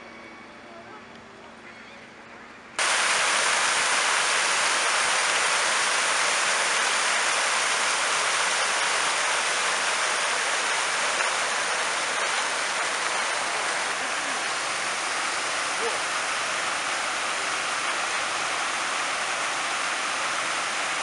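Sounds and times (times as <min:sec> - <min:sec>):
fountain water splashing into pool: 0:02.8 - 0:21.0.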